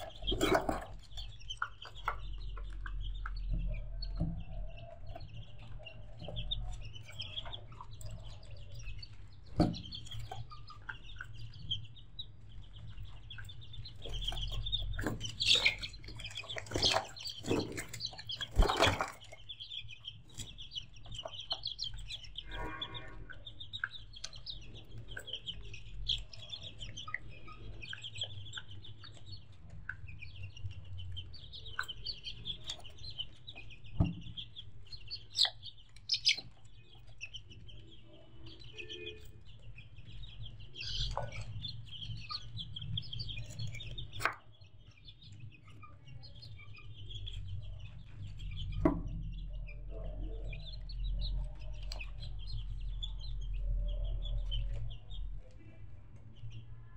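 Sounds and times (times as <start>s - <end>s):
chickens clucking: 0.0s - 56.6s
chicks peeping: 0.0s - 56.9s.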